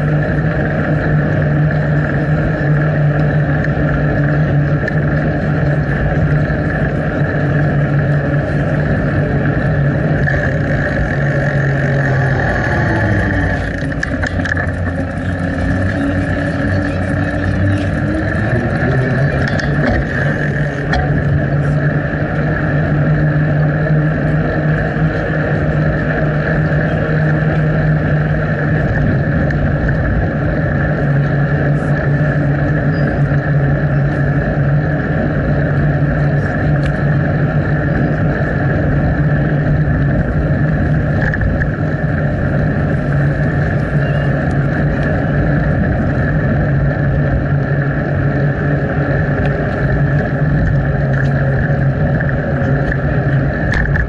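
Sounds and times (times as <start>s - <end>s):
bicycle ride rushing noise: 0.0s - 54.0s
constant low hum: 0.0s - 54.0s.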